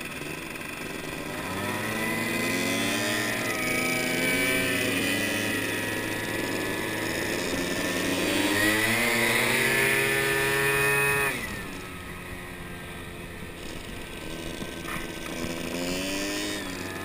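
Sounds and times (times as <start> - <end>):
moped engine accelerating: 0.0 - 17.0.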